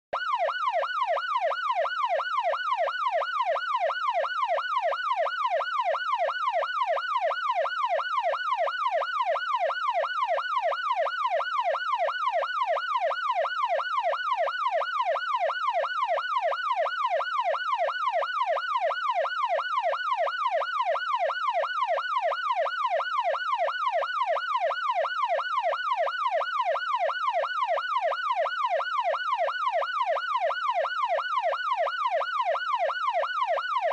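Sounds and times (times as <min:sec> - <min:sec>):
police siren yelping: 0:00.2 - 0:33.9.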